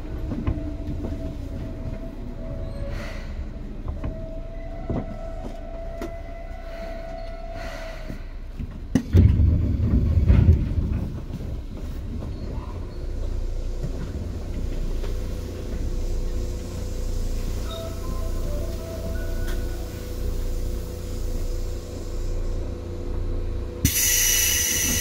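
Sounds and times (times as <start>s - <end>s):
train running rumble: 0.0s - 25.0s
train whine: 0.0s - 25.0s.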